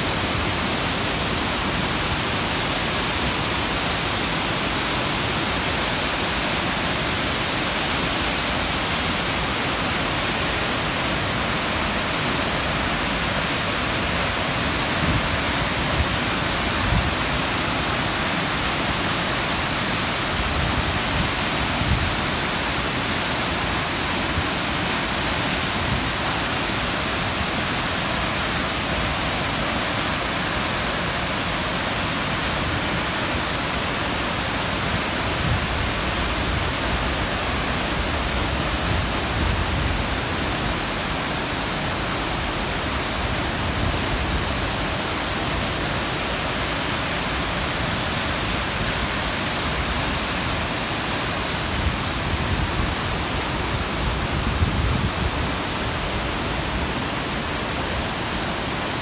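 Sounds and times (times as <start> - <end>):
waterfall crashing onto rocks: 0.0 - 59.0.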